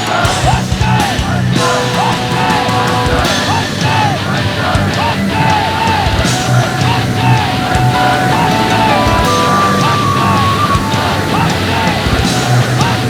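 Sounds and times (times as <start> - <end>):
music: 0.0 - 13.0
people shouting: 0.0 - 13.0
firework rushing roar: 0.4 - 13.0.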